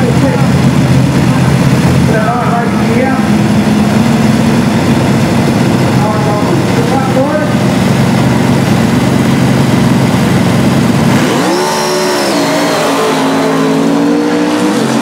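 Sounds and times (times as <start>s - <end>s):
motorcycles rumbling and accelerating: 0.0s - 15.0s.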